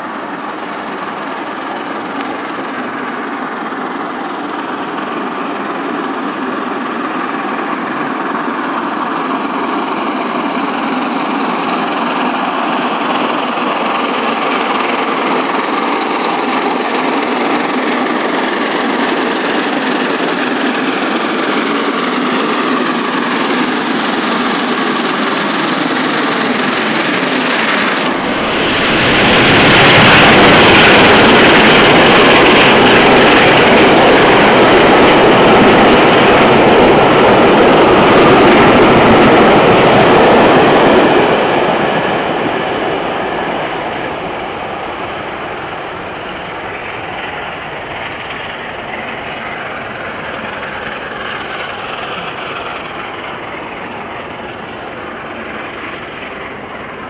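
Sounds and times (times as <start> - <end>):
steam locomotive working hard: 0.0 - 57.0
train wheels rolling on rails: 0.0 - 57.0.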